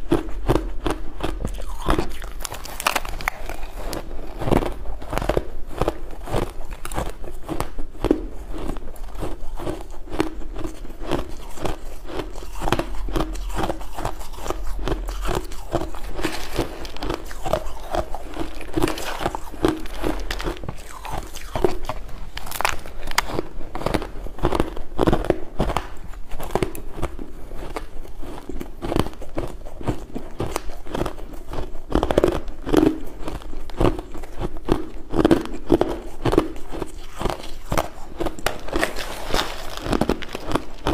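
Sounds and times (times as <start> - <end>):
crunching shaved ice: 0.1 - 40.9.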